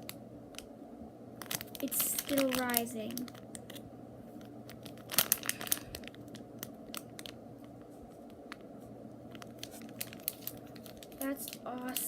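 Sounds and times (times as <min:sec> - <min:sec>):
plastic packaging crackling: 0:00.0 - 0:00.7, 0:01.3 - 0:12.0
low room hum: 0:00.0 - 0:12.0.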